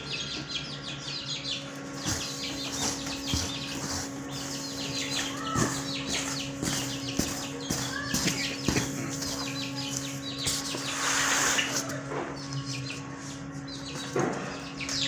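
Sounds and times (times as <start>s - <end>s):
birds chirping and calling: 0.0s - 15.0s
steady low hum: 0.0s - 15.0s.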